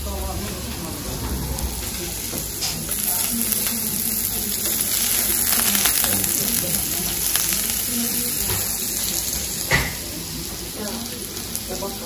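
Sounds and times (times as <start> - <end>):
vegetables sizzling on griddle: 0.0 - 12.0
butter crackling on hot plate: 1.4 - 12.0.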